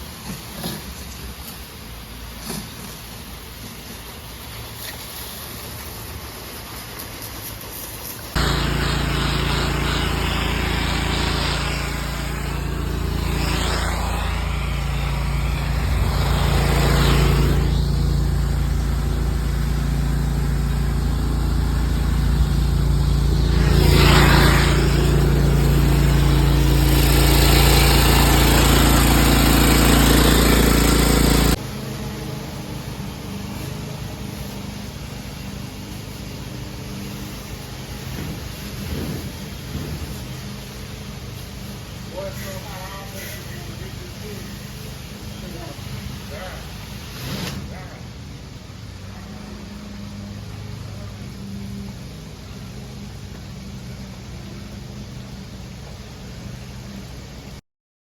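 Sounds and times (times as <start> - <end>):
pressure washer engine running: 0.0 - 57.5
water jet spraying: 0.1 - 47.9.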